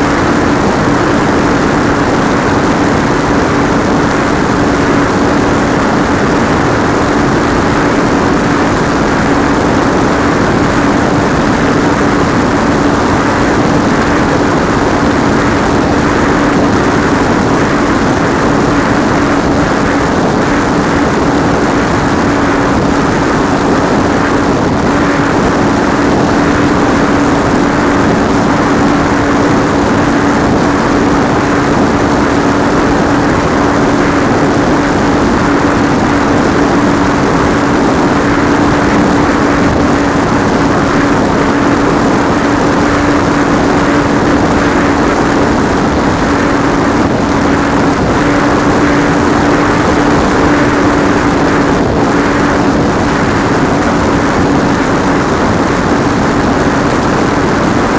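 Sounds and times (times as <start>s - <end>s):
electric motor and propeller drone: 0.0s - 57.9s
rush of airflow: 0.0s - 57.9s.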